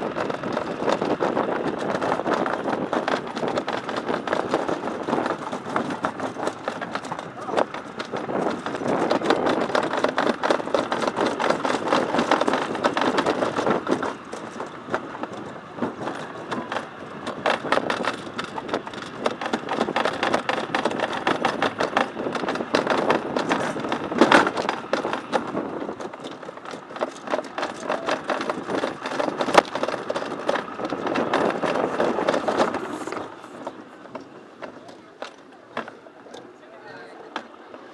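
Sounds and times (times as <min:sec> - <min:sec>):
sled wheels rattling on metal track: 0:00.0 - 0:37.9.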